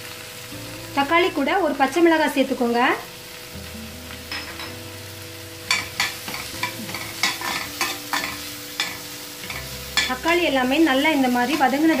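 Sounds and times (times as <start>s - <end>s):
frying hiss: 0.0s - 12.0s.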